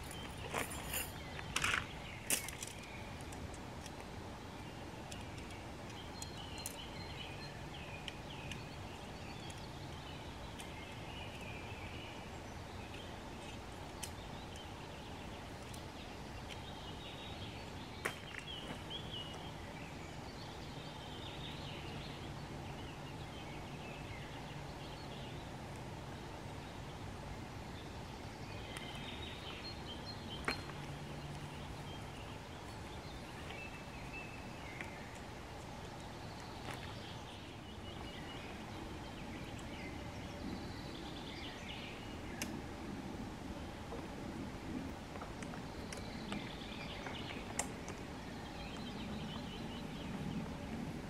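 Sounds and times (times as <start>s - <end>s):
birds chirping: 0.0s - 51.0s
steady background hiss: 0.0s - 51.0s.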